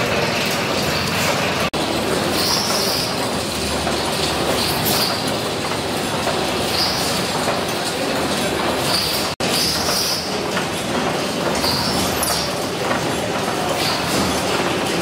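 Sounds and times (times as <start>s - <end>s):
gas engine mechanical clatter: 0.0s - 15.0s.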